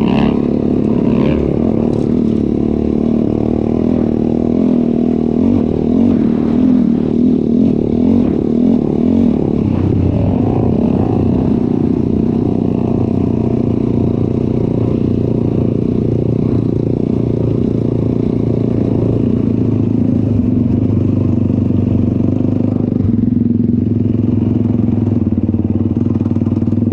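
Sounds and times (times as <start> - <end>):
atv engine running: 0.0 - 26.9.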